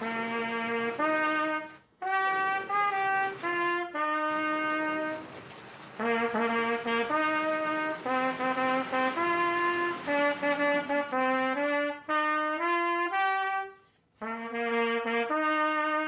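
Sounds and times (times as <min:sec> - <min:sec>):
solo trumpet melody: 0:00.0 - 0:16.0.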